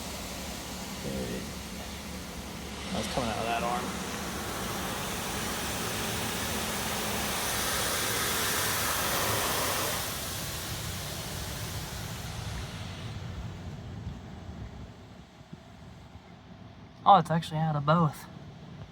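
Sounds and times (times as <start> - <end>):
car wash spray hissing: 0.0 - 15.4.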